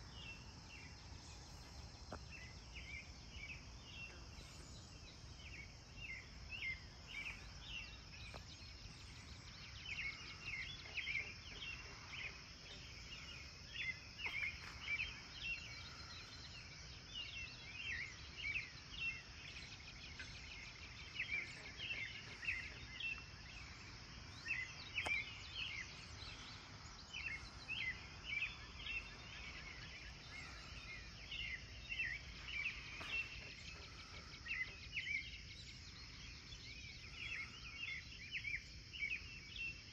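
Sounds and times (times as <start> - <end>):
birds chirping: 0.0 - 39.9
crickets droning: 0.0 - 39.9.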